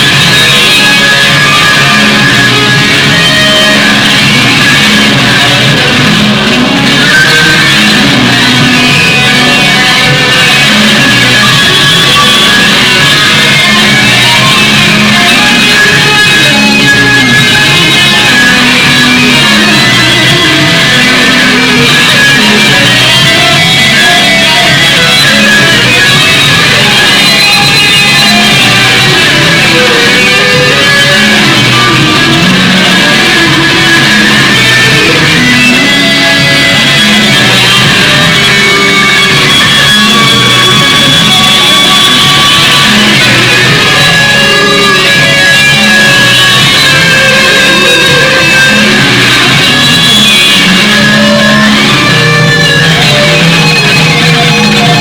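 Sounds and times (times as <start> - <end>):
guitar rock music: 0.0 - 55.0.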